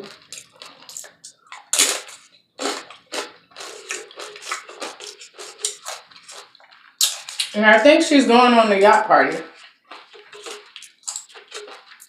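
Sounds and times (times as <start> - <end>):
chewing and crunching: 0.0 - 7.6, 9.3 - 12.0.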